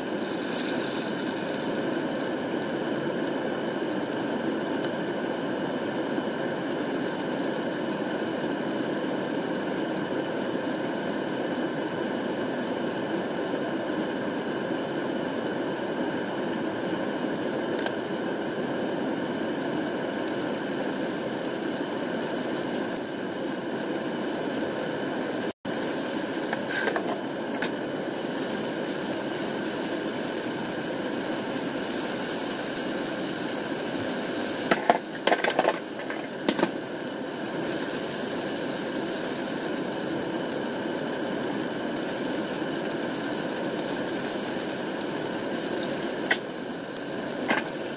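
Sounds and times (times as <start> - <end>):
food deep-frying in oil: 0.0 - 47.9.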